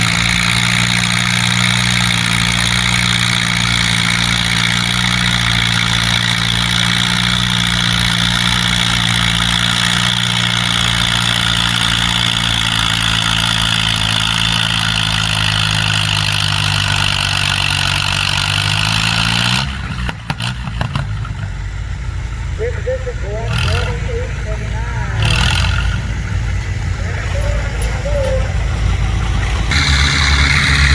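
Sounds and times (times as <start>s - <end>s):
tractor engine at high revs: 0.0s - 30.9s.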